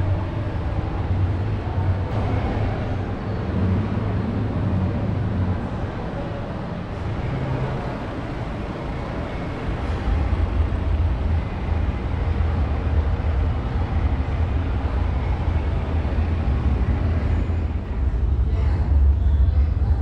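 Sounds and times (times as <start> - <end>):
low mechanical hum and rumble: 0.0 - 20.0.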